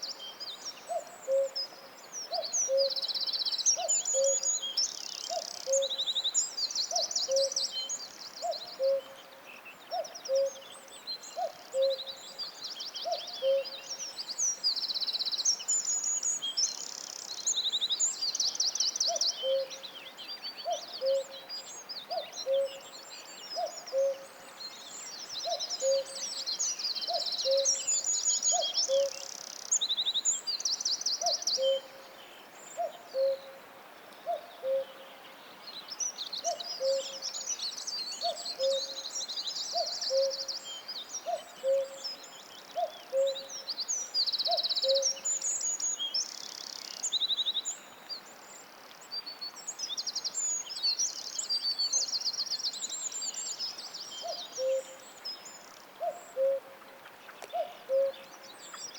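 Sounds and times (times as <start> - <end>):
songbirds singing trills: 0.0 - 58.9.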